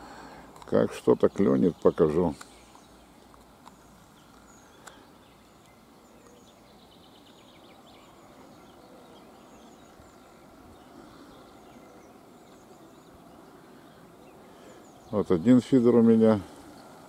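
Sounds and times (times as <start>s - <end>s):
distant birds chirping: 0.0s - 17.0s
low steady hiss: 0.0s - 17.0s.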